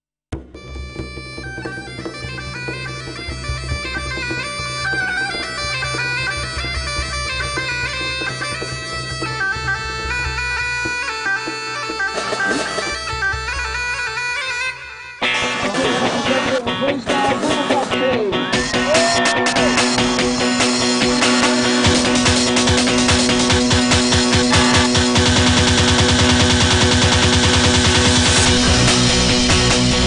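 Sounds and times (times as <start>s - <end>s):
bagpipes playing a tune: 0.5s - 16.6s, 18.6s - 29.3s.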